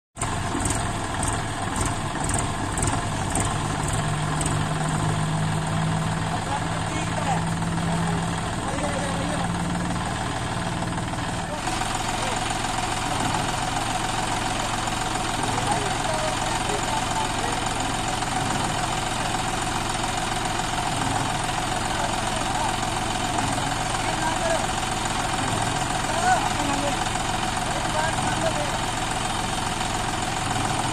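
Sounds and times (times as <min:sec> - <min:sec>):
tractor diesel engine idling: 0:00.2 - 0:30.9.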